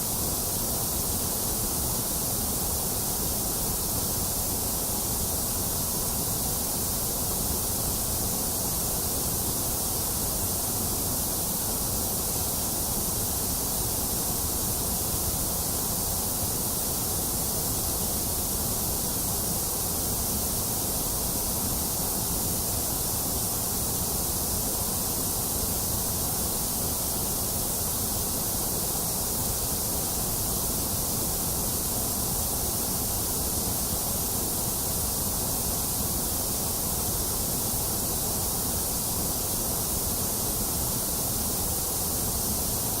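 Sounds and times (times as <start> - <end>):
white noise hiss: 0.0 - 43.0.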